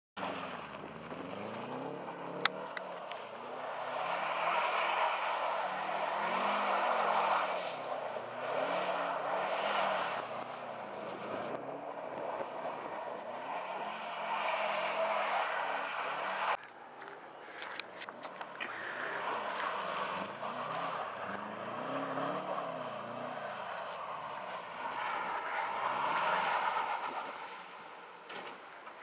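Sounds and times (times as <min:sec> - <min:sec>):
car engine revving: 0:00.2 - 0:28.3
tyres spinning on snow: 0:00.2 - 0:29.0.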